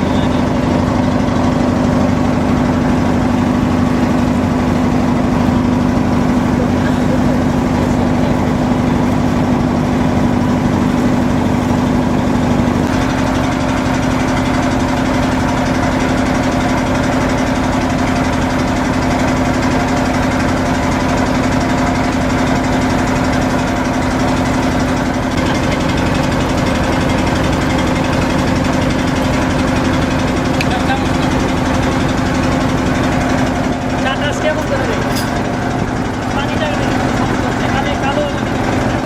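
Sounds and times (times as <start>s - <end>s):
boat engine humming: 0.0s - 39.0s.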